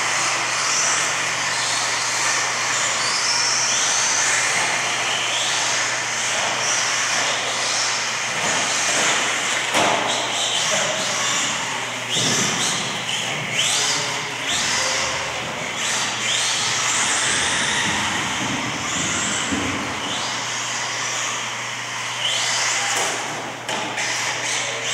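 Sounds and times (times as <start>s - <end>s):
rc car motors whining: 0.0s - 24.9s.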